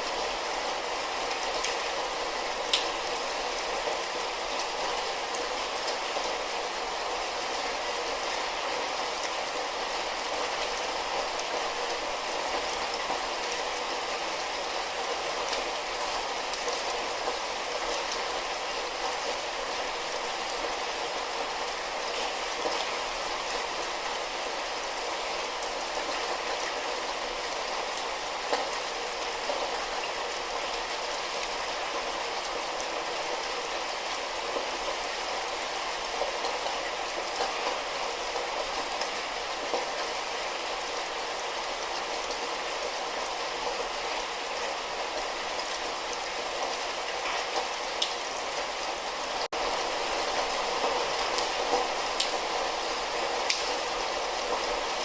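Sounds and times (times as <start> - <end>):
light rain: 0.0 - 55.0.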